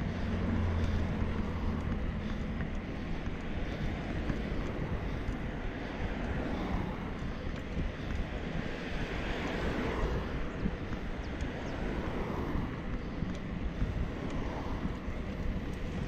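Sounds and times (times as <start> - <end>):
road and traffic noise: 0.0 - 16.0
wind rushing on microphone: 0.0 - 16.0.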